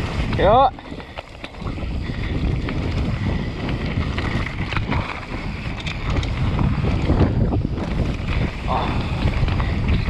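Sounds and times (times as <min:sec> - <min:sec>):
bike rattles and clicks: 0:00.0 - 0:10.0
tyres rumbling on loose ground: 0:00.0 - 0:10.0
wind buffeting microphone: 0:00.0 - 0:10.0.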